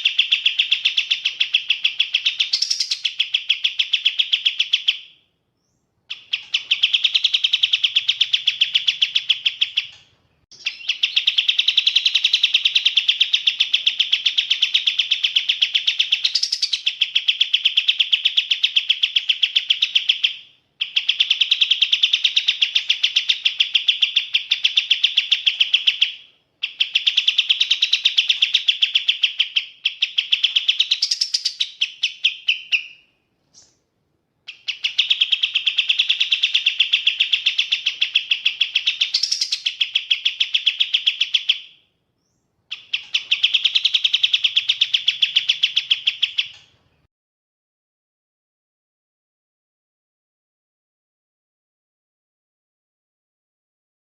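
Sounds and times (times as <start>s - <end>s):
bulbul singing: 0.0s - 33.8s, 34.5s - 46.8s.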